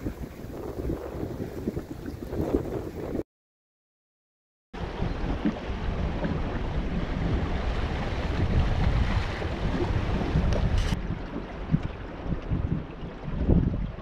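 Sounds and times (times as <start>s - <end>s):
water splashing along hull: 0.0s - 3.2s, 4.8s - 14.0s
wind buffeting microphone: 0.0s - 3.2s, 4.8s - 14.0s.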